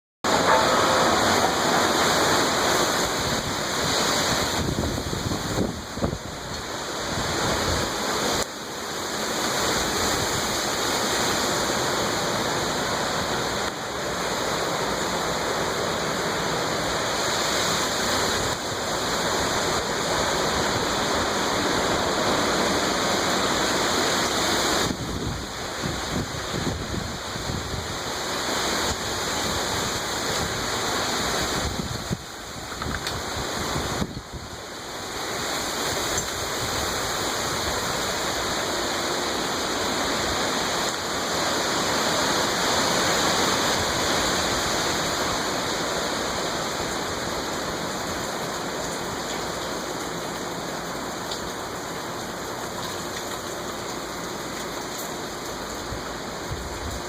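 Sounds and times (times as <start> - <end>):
torrential rain in wind: 0.2 - 57.0.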